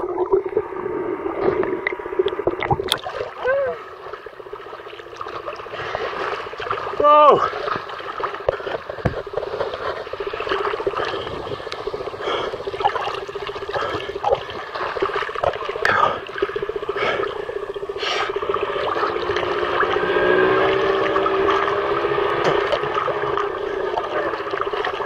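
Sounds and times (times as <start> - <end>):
boat engines humming: 0.0 - 25.0
muffled water sloshing and splashing: 0.0 - 25.0.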